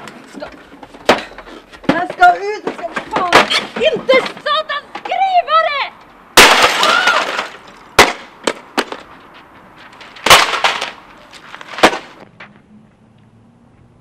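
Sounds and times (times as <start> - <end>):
objects crashing onto asphalt: 0.0 - 5.7, 6.3 - 12.5.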